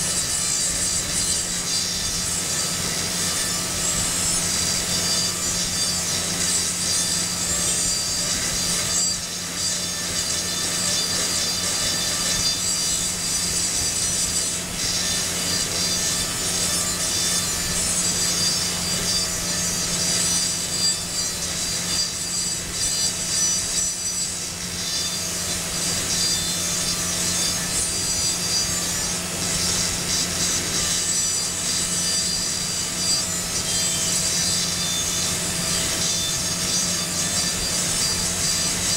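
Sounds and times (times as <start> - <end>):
dental drill whining: 0.0 - 38.9.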